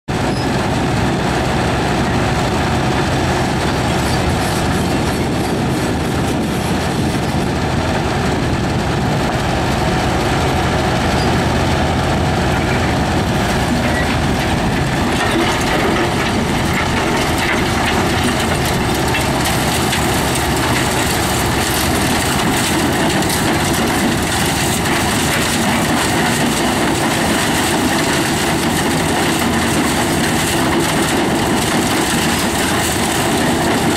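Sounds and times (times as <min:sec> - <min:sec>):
machine engine: 0:00.1 - 0:33.9.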